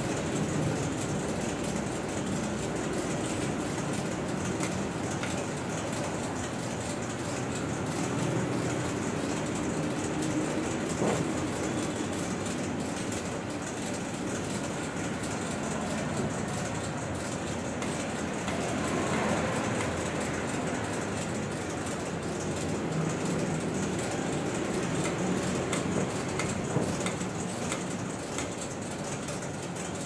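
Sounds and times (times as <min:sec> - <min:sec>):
factory machinery and conveyor running: 0:00.0 - 0:30.0.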